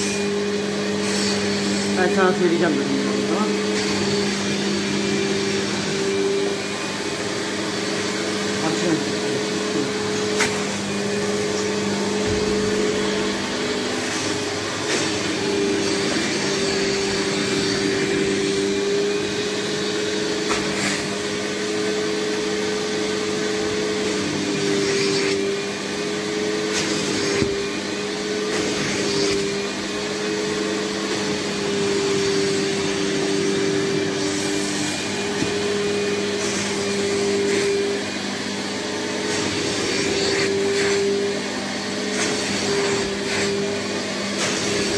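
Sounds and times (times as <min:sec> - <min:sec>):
nozzle drawn over sofa fabric: 0:00.0 - 0:19.2, 0:26.4 - 0:44.9.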